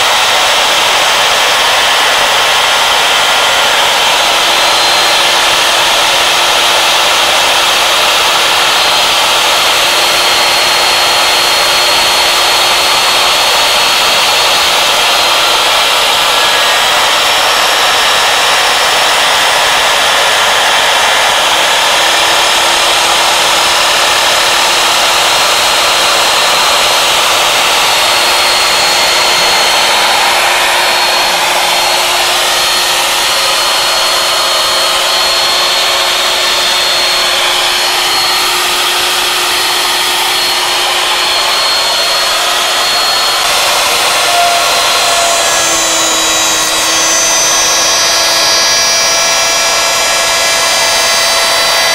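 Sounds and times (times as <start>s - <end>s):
router spindle cutting wood: 0.0s - 51.9s.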